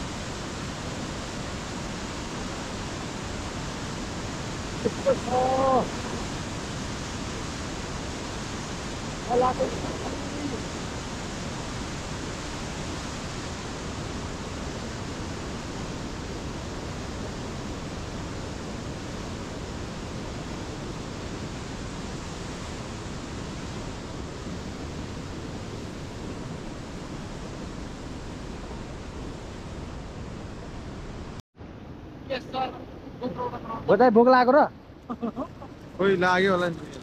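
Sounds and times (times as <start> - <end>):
river rushing over rocks: 0.0 - 31.4.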